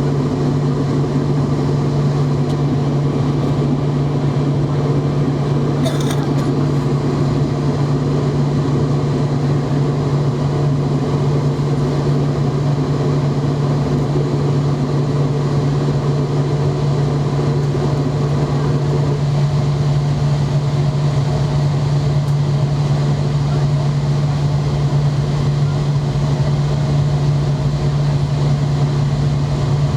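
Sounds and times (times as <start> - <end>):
airliner drone: 0.0 - 29.9.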